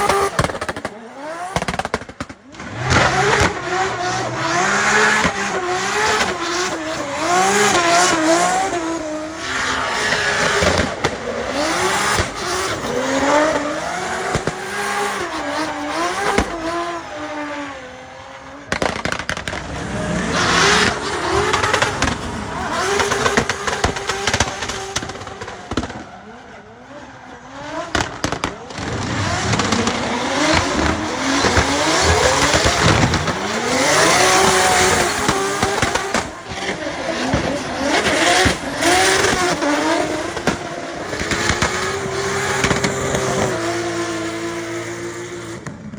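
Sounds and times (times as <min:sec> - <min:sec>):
car engine revving hard: 0:00.0 - 0:45.9.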